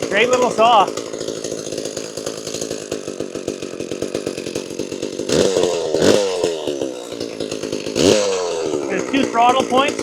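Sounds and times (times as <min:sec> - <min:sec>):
chainsaw idling and revving: 0:00.0 - 0:10.0.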